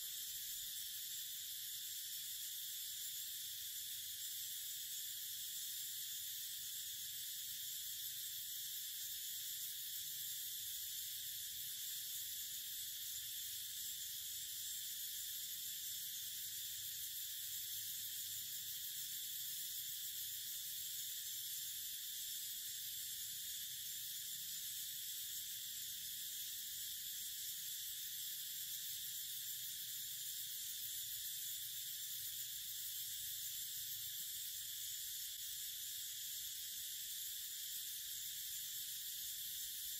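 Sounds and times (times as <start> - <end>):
forest insects droning: 0.0 - 39.9.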